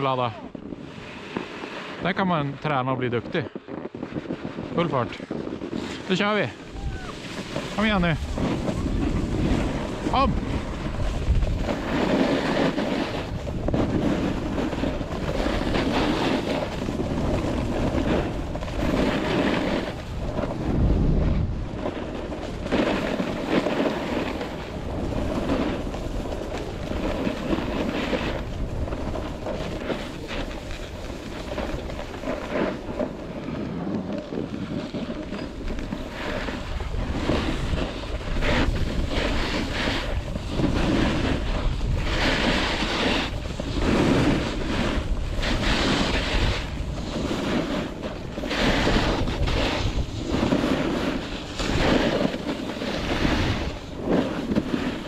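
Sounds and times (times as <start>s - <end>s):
wind buffeting microphone: 0.0s - 55.0s
edges scraping on snow: 0.6s - 2.8s, 3.8s - 55.0s.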